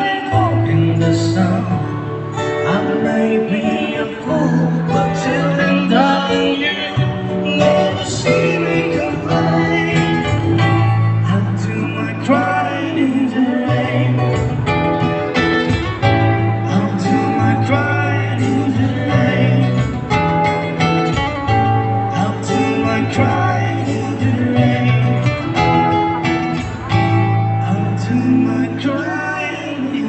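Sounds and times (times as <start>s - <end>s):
person singing: 0.0s - 20.8s, 21.5s - 26.1s, 26.7s - 30.0s
guitar accompaniment: 0.0s - 30.0s
steady bass line: 0.0s - 30.0s.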